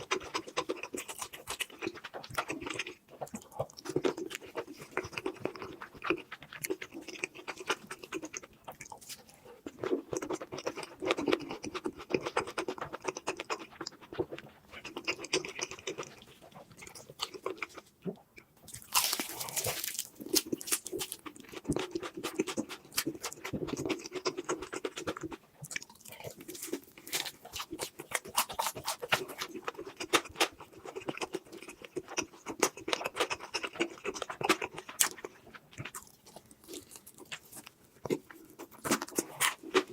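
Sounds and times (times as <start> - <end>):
chewing with wet mouth clicks: 0.0 - 39.9.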